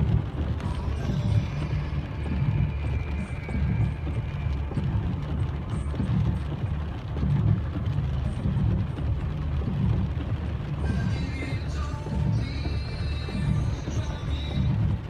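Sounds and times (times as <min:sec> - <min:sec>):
faint steady tones: 0:00.0 - 0:15.0
vehicle engine rumble: 0:00.0 - 0:15.0.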